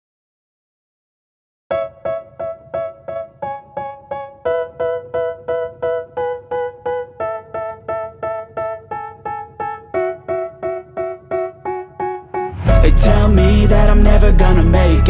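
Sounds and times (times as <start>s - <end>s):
keyboard playing repeated chords: 1.7s - 15.0s.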